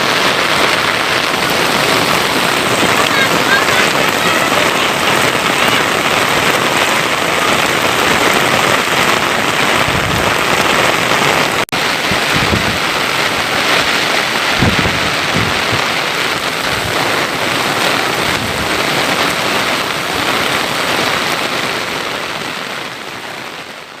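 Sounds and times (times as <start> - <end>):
torrential rain pouring: 0.0 - 24.0.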